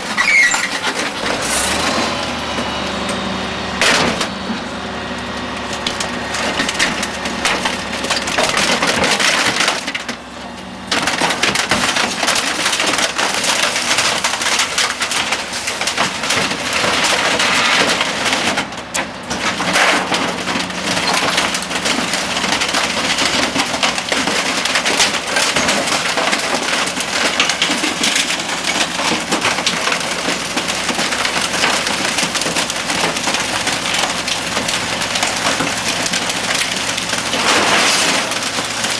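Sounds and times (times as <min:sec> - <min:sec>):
plastic and glass breaking: 0:00.0 - 0:02.0, 0:05.8 - 0:10.3, 0:10.9 - 0:38.9
compactor crushing trash: 0:00.0 - 0:38.9
truck engine hum: 0:00.0 - 0:38.9.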